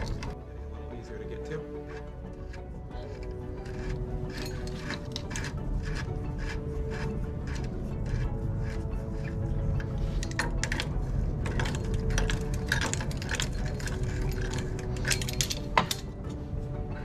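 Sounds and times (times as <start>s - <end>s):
wrench clicking and scraping metal: 0.0s - 0.4s, 1.6s - 16.4s
steady low hum: 0.0s - 17.0s.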